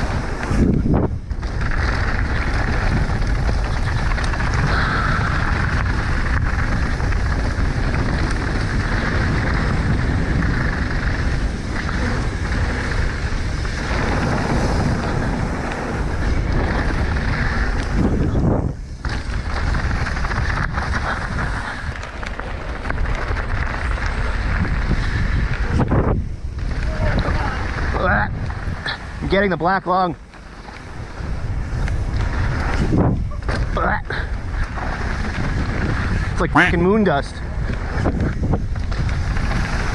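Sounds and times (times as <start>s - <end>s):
tyres rumbling over dirt and rocks: 0.0s - 39.9s
wind rushing over microphone: 0.0s - 39.9s.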